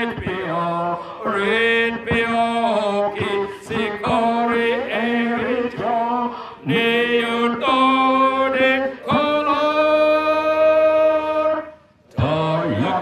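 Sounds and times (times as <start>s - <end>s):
man singing a slow hymn: 0.0s - 13.0s.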